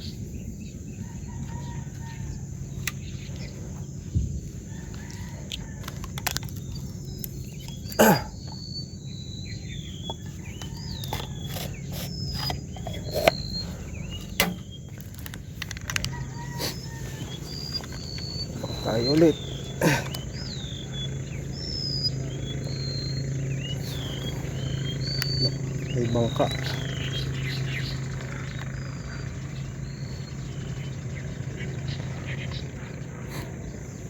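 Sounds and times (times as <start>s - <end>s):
low steady rumble: 0.0s - 8.0s, 8.6s - 34.0s
birds chirping: 0.0s - 34.0s
insects buzzing: 0.0s - 34.0s.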